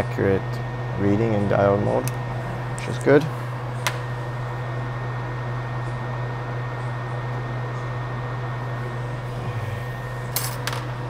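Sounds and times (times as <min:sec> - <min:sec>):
low machine hum with whine: 0:00.0 - 0:11.0.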